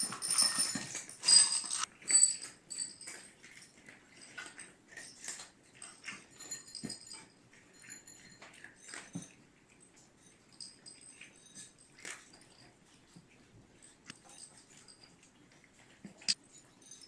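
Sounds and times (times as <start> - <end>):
cats eating from bowls: 0.0 - 17.0.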